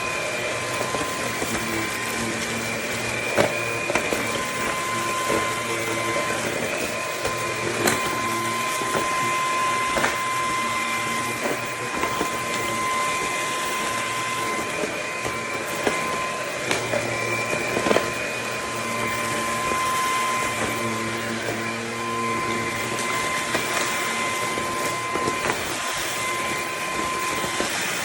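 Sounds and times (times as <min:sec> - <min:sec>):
vacuum cleaner motor whine: 0:00.0 - 0:28.0.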